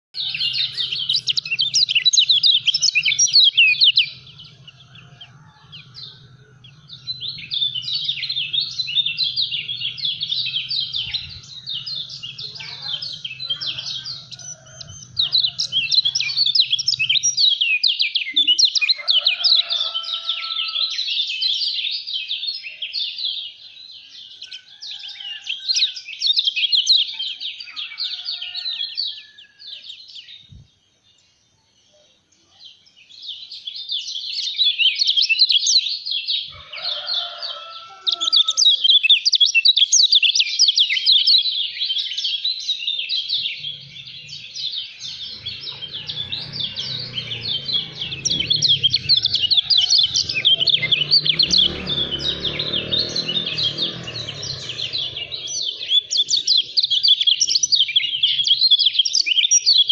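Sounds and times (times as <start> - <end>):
bird singing high chattering notes: 0.1 - 28.3, 33.5 - 59.9.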